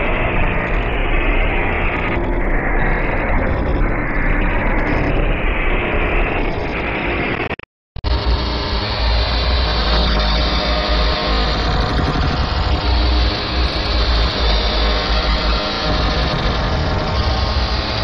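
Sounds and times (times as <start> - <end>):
distorted noisy din: 0.0 - 18.0.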